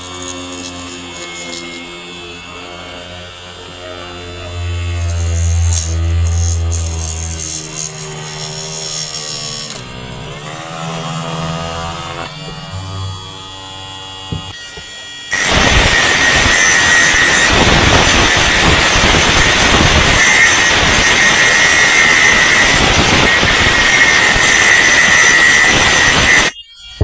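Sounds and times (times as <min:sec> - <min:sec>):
grinder motor running with high whine: 0:00.0 - 0:27.0.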